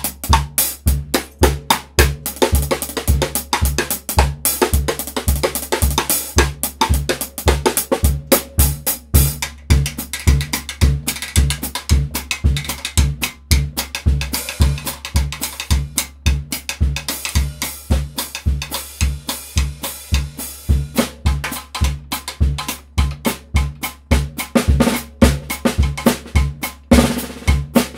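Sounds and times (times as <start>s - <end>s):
bass drum beat: 0.0s - 27.9s.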